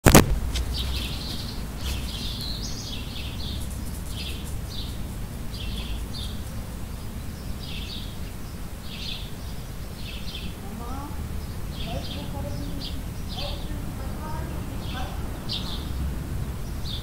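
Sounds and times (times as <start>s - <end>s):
birds chirping: 0.0s - 17.0s
low background rumble: 0.0s - 17.0s.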